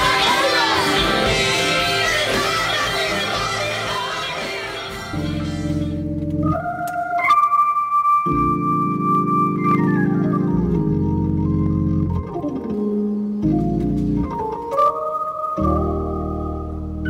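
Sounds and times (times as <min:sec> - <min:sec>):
organ playing slow chords: 0:00.0 - 0:07.2, 0:08.3 - 0:17.0.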